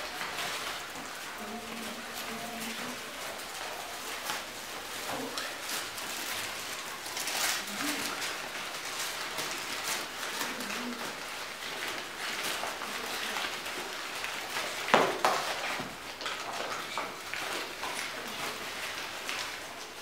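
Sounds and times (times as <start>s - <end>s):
foil and paper crinkling: 0.0s - 20.0s.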